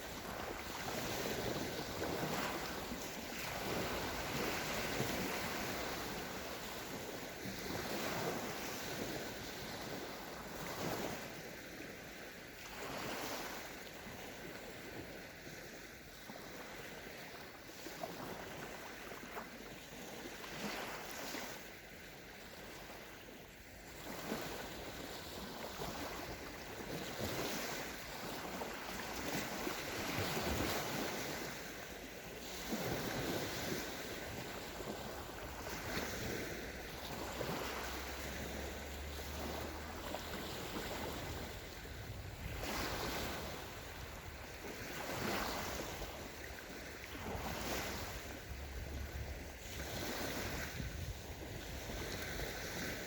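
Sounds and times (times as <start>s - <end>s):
waves breaking on sandy shore: 0.0s - 53.0s.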